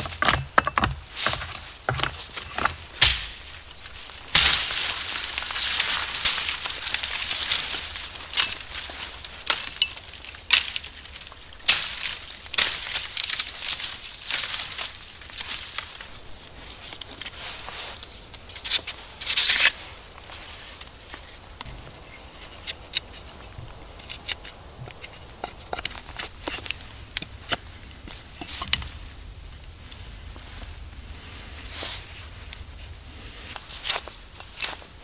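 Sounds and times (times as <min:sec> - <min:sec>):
dry leaves and twigs crunching: 0:00.0 - 0:35.0.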